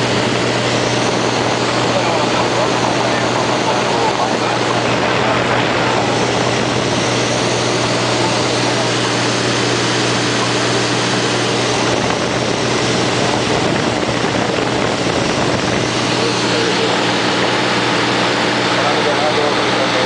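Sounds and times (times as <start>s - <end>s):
aircraft engine and propeller drone: 0.0s - 20.0s.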